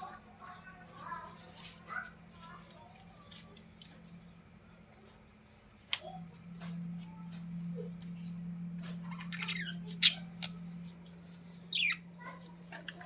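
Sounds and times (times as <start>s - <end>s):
clicks and scratchy rustling: 0.0s - 13.0s
steady low hum: 0.0s - 13.0s.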